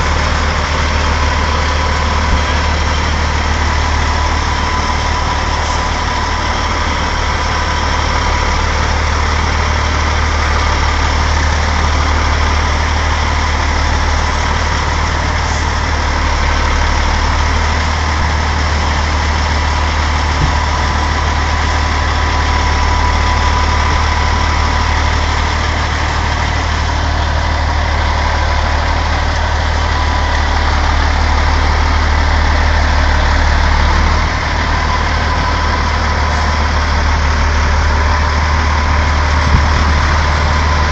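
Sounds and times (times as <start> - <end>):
diesel truck engine drone: 0.0 - 40.9.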